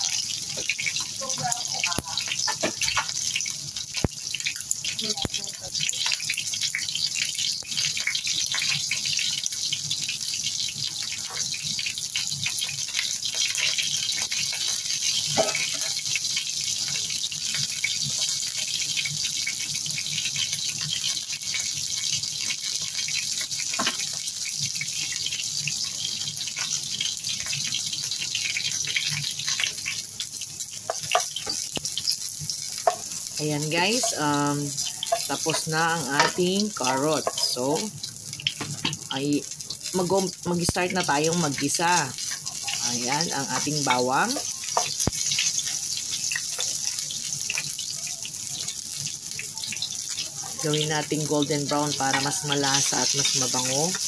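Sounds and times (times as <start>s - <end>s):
food frying in hot oil: 0.0s - 54.0s.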